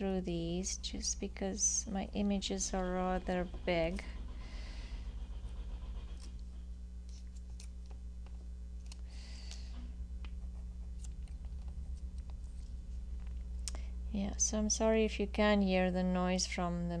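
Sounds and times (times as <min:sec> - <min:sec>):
low machine drone: 0:00.0 - 0:17.0.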